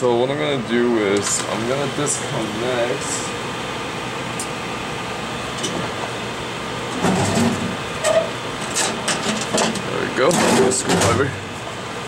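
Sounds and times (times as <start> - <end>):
hot air blower hissing: 0.0 - 12.0.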